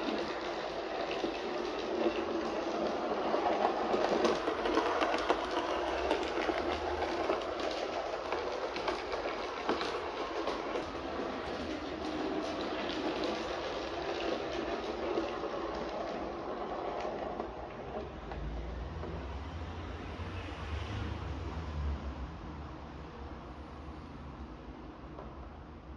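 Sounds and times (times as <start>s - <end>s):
wheels clicking on rails: 0.0s - 22.3s.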